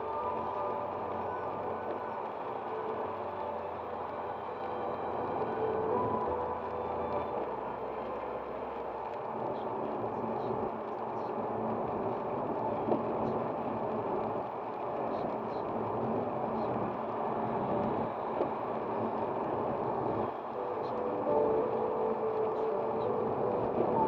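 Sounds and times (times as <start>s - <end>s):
car road and tyre noise: 0.0s - 24.0s.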